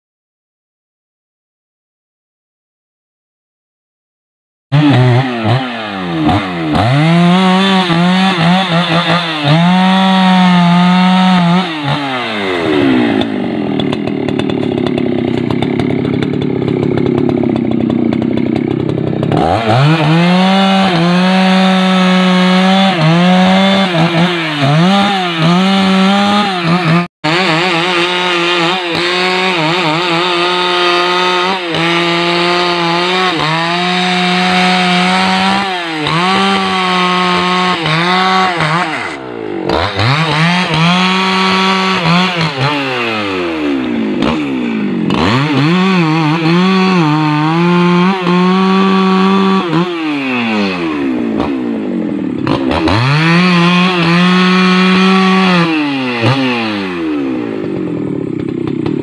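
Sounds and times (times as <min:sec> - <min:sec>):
chainsaw cutting logs: 0:04.7 - 0:59.0.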